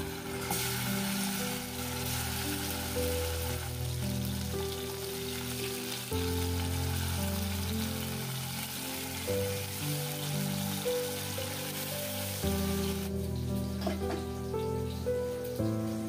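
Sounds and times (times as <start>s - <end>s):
food sizzling in frying: 0.0s - 16.0s
music of held chords: 0.0s - 16.0s.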